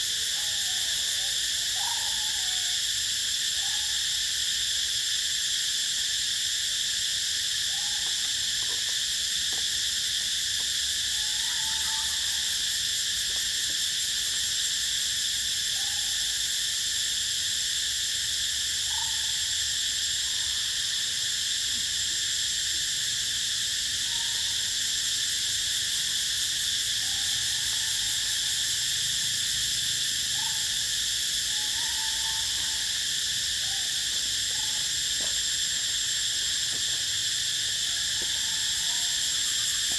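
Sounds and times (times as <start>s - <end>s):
insects droning: 0.0s - 39.9s
short faint insect calls: 0.0s - 39.9s.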